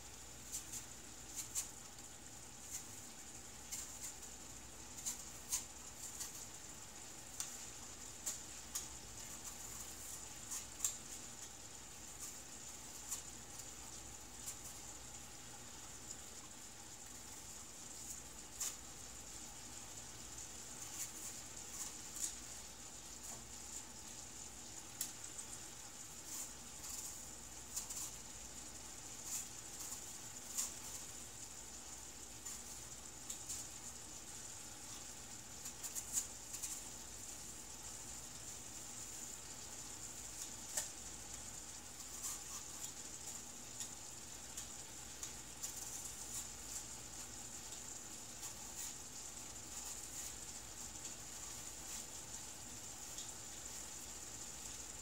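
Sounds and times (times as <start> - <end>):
fat crackling and popping: 0.0 - 55.0
meat sizzling in a skillet: 0.0 - 55.0.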